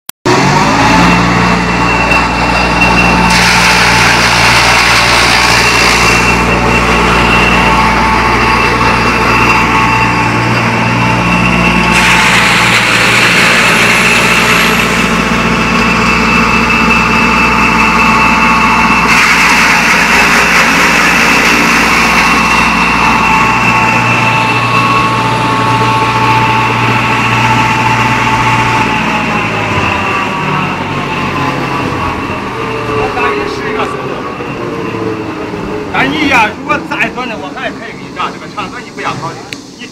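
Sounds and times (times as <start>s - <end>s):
crusher machine din: 0.3s - 39.9s
high whine of spinning cutter: 0.3s - 39.9s.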